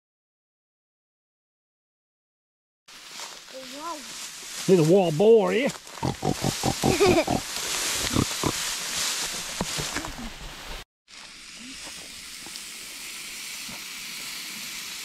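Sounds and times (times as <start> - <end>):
rustling through long grass: 2.9 - 15.0.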